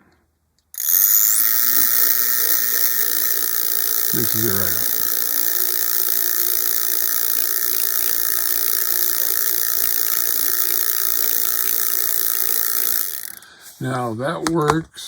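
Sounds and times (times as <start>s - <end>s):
paint mixer buzzing rattle: 0.8s - 13.7s.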